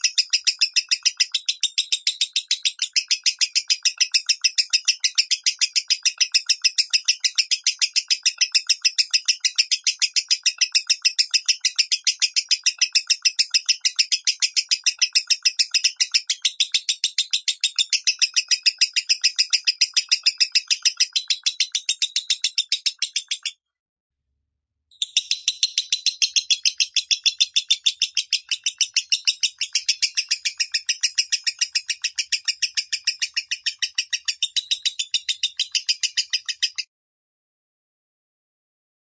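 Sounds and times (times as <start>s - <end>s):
lovebird chirping: 0.0s - 23.6s, 24.9s - 36.9s.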